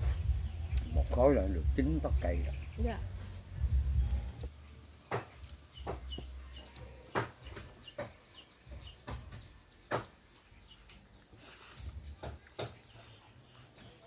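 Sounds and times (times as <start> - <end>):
chickens chirping: 0.0 - 4.5, 5.1 - 14.0.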